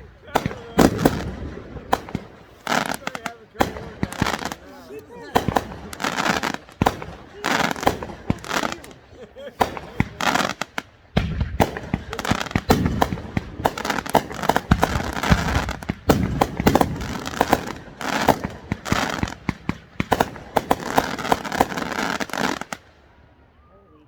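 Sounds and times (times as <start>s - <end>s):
fireworks bangs: 0.0s - 23.2s
fireworks crackling: 0.0s - 23.2s.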